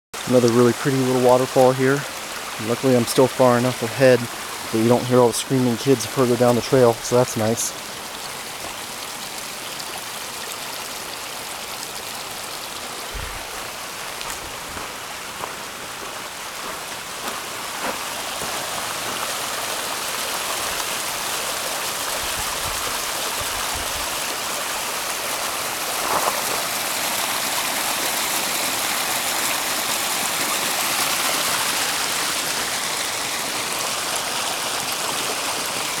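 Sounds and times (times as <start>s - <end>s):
waterfall rushing over rocks: 0.1s - 36.0s.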